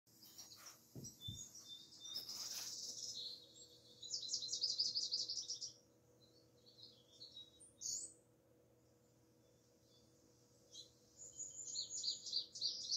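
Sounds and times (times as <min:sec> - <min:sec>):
songbirds chirping through tv speakers: 0:00.1 - 0:12.9.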